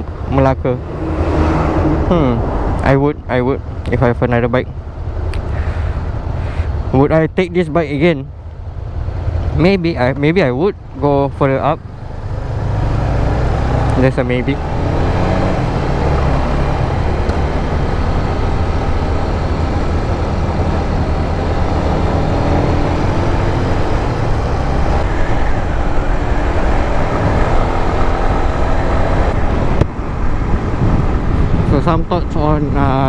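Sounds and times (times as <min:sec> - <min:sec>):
wind rushing over microphone: 0:00.0 - 0:07.0, 0:07.8 - 0:33.0.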